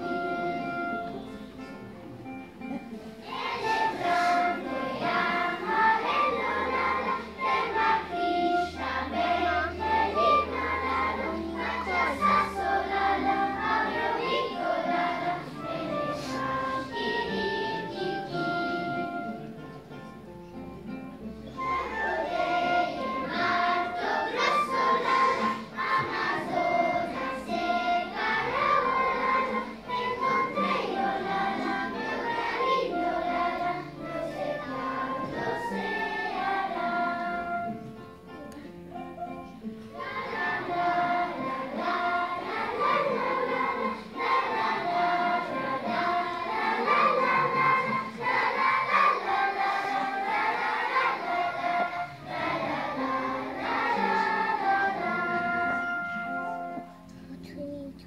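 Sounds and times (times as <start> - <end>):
flute: 0.0 - 1.7, 3.3 - 19.8, 21.4 - 38.1, 40.0 - 57.2
children's choir singing: 0.0 - 20.3, 21.4 - 57.3
acoustic guitar: 0.0 - 58.0.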